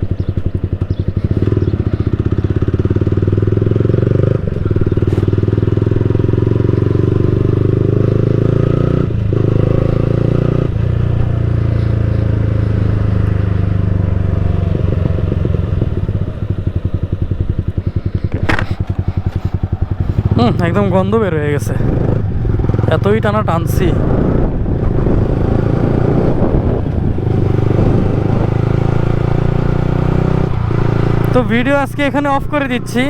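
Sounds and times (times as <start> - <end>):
motorcycle exhaust pulsing: 0.0 - 33.0.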